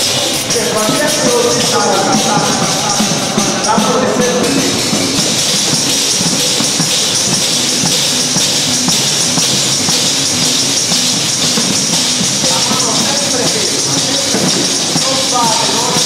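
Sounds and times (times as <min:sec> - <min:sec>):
frame drums beating: 0:00.0 - 0:16.0
metal jingles rattling: 0:00.0 - 0:16.0.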